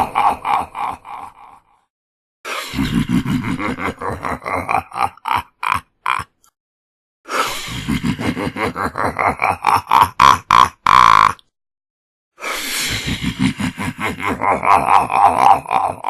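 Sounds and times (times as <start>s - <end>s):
deep evil laughs: 0.0s - 1.9s, 2.5s - 6.6s, 7.4s - 11.5s, 12.7s - 16.0s.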